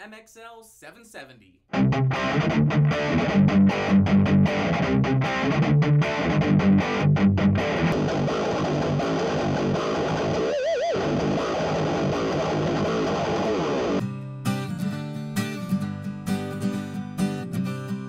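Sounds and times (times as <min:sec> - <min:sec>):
electric guitar chords: 0:01.7 - 0:18.0.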